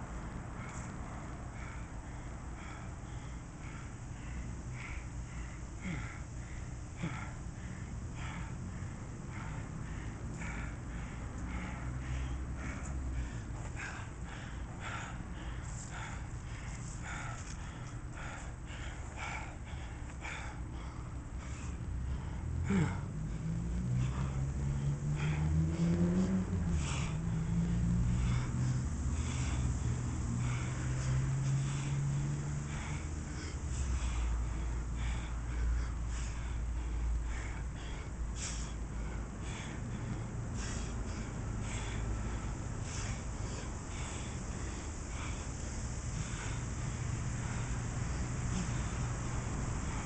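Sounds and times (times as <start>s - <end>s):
man breathing hard: 0.0s - 50.0s
steady low rumble: 0.0s - 50.0s
vehicle engine hum: 0.0s - 50.0s.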